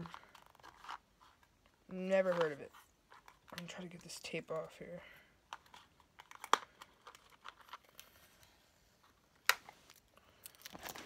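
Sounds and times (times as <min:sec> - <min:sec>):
faint crinkling: 0:00.0 - 0:11.0.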